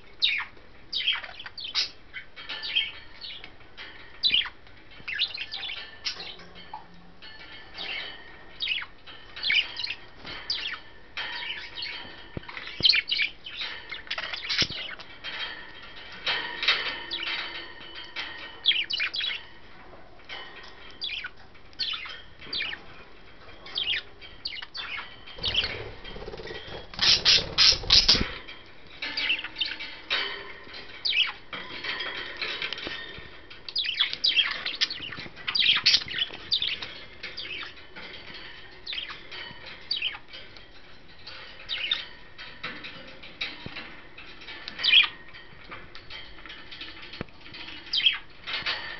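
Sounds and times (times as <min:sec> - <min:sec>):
budgerigars chirping and chattering: 0:00.2 - 0:19.6, 0:20.3 - 0:48.9.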